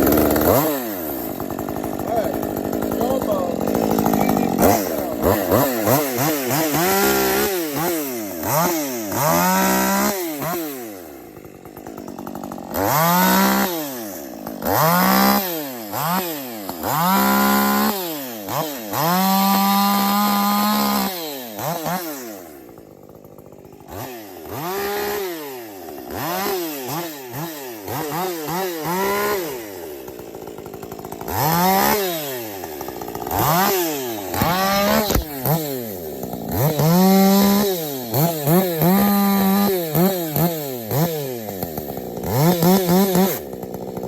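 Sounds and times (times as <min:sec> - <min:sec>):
chainsaw revving: 0:00.0 - 0:44.0.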